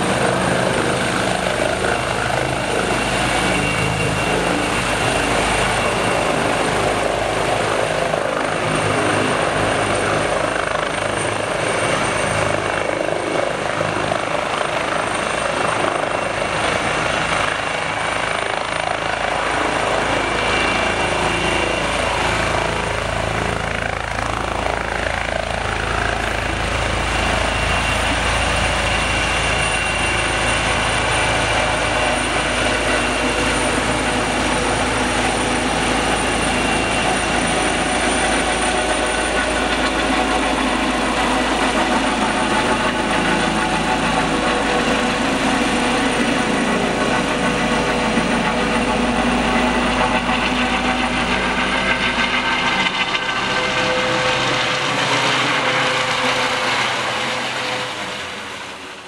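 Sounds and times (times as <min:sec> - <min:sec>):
helicopter turbine and rotor: 0:00.0 - 0:59.0
high turbine whine: 0:00.0 - 0:59.0.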